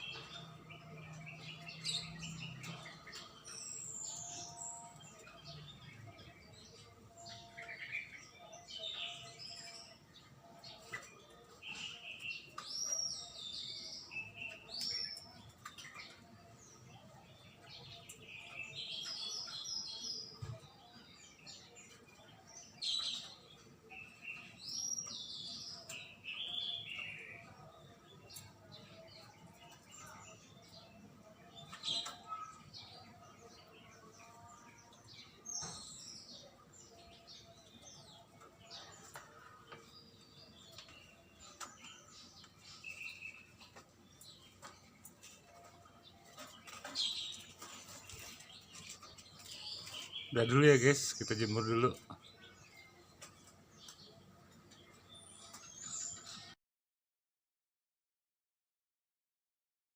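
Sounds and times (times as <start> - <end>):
birds chirping: 0.0 - 56.6.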